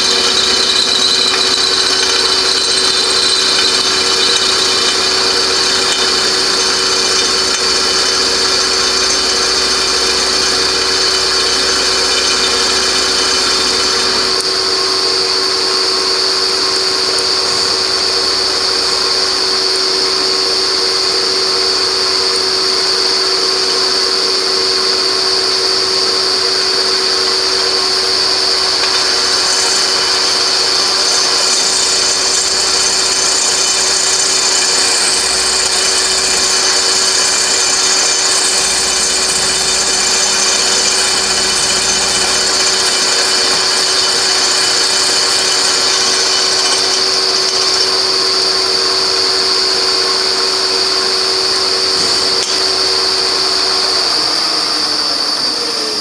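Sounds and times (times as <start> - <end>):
end mill cutting whine: 0.0 - 56.0
milling machine humming: 0.0 - 56.0.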